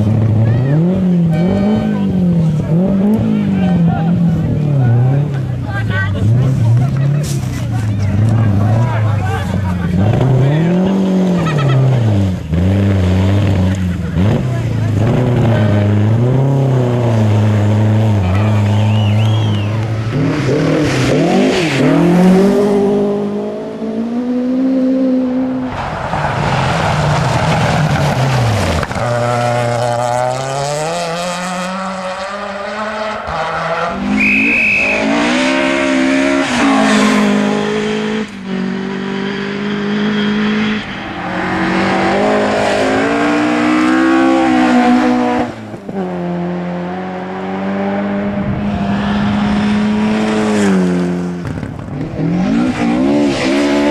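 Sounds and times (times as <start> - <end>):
rally car engines at full throttle: 0.0 - 53.9.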